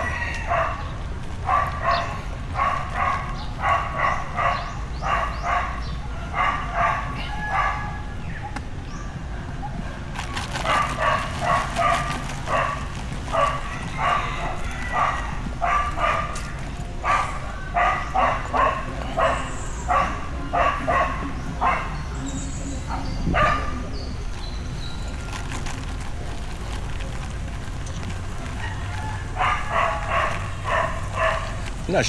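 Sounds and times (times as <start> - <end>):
dog barking: 0.0 - 24.1, 28.4 - 32.0.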